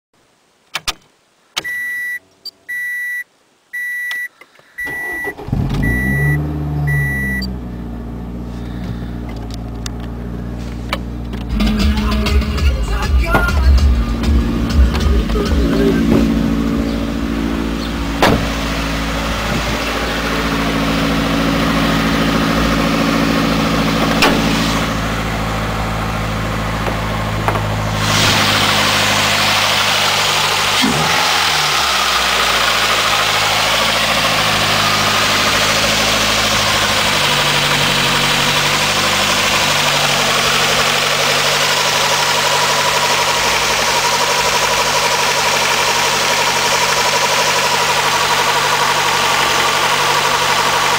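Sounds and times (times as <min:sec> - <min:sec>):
car engine idling with knock: 0:08.4 - 0:50.9.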